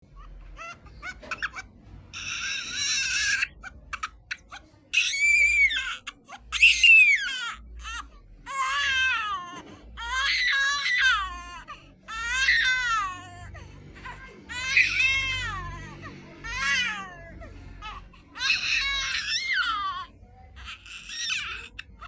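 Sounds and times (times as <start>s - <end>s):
baby crying: 0.1s - 22.0s.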